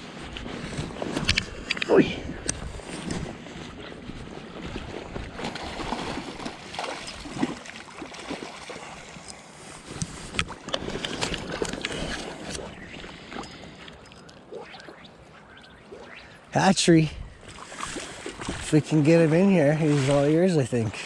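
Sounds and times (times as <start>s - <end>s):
river water sloshing and splashing: 0.0s - 16.4s, 17.3s - 21.0s.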